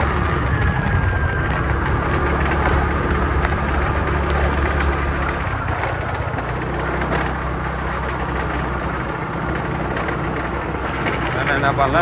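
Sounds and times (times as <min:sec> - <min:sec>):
vehicle engine hum: 0:00.0 - 0:12.0
wind and road noise: 0:00.0 - 0:12.0.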